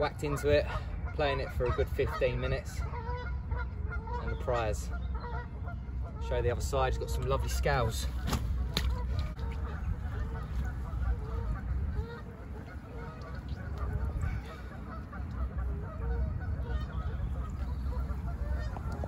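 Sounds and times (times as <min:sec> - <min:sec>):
geese honking: 0:00.3 - 0:19.0.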